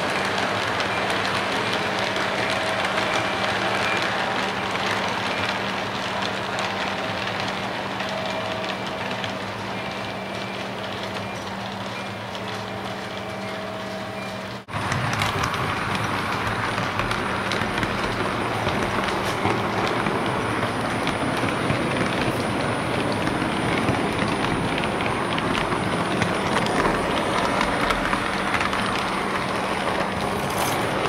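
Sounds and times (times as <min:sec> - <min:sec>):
model train wheels clattering: 0:00.0 - 0:31.0.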